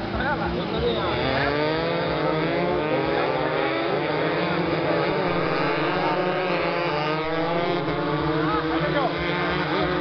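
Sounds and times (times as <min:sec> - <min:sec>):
racing motorcycles revving: 0:00.0 - 0:10.0.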